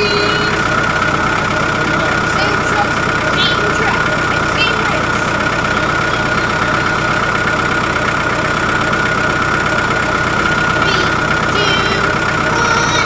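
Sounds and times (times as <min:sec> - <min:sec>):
constant high whine: 0:00.0 - 0:13.0
engine idling: 0:00.0 - 0:13.0.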